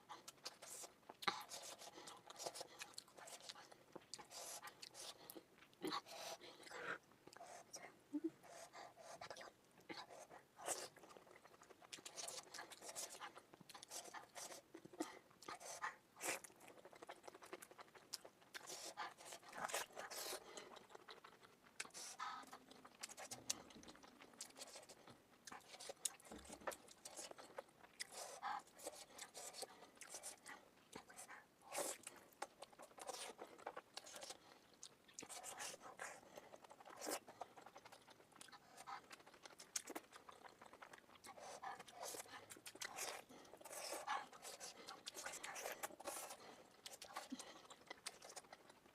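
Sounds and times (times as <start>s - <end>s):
chewing and biting smacks: 8.8s - 48.9s.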